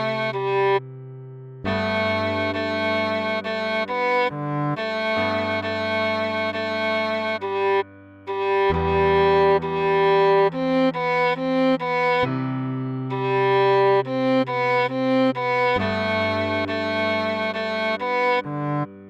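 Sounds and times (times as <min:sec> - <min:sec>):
cello playing slow melody: 0:00.0 - 0:19.0.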